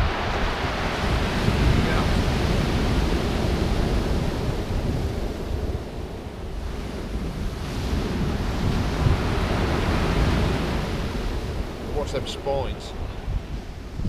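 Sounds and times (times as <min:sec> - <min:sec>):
surf washing on pebble beach: 0:00.0 - 0:14.0
wind buffeting microphone: 0:00.0 - 0:14.0.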